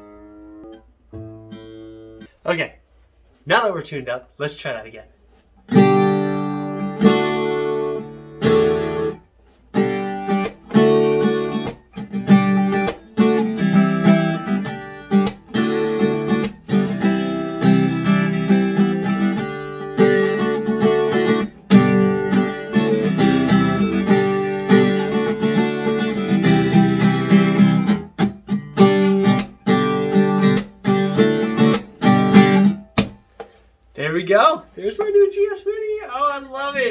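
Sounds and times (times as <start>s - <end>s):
acoustic guitar strummed in chords: 0.0s - 2.4s, 5.6s - 33.7s.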